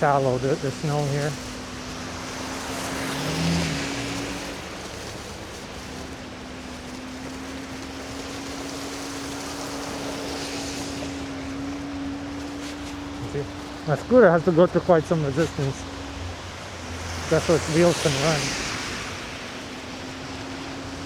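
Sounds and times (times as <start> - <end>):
low motor hum: 0.0 - 21.0
wind and tyres rushing: 0.0 - 21.0.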